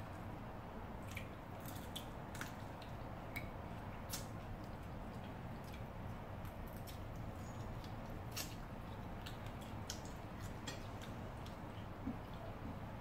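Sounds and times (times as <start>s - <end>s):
faint low hum: 0.0s - 13.0s
chewing and mouth sounds: 1.0s - 12.9s.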